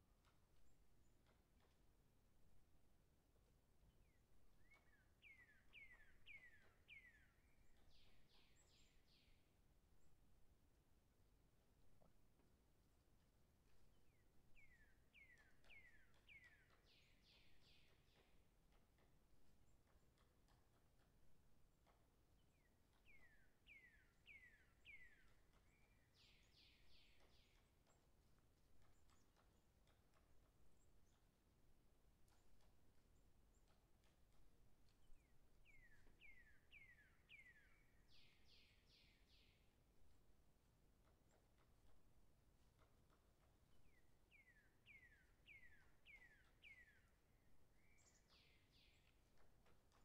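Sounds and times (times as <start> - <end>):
faint birdsong: 0.0 - 50.0.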